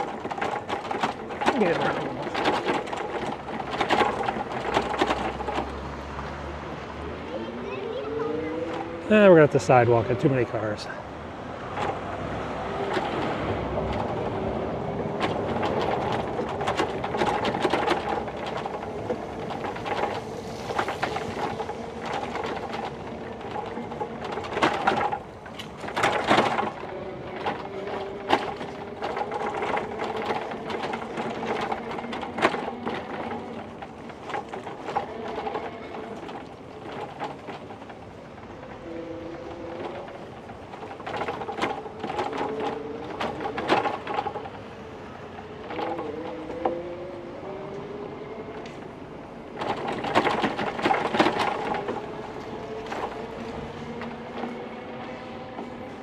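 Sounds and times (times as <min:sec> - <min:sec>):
bicycle rattling on bricks: 0:00.0 - 0:56.0.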